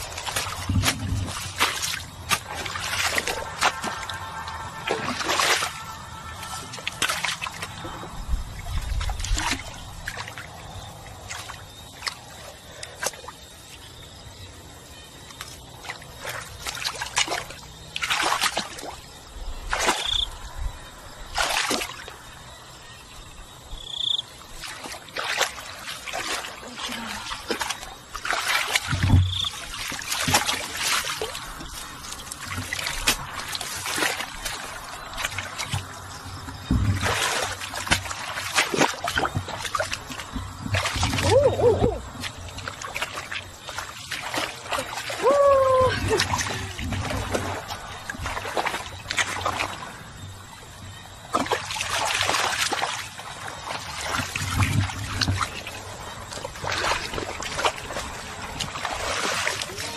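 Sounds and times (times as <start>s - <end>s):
water splashing and sloshing: 0.0s - 59.9s
water trickling: 0.0s - 59.9s.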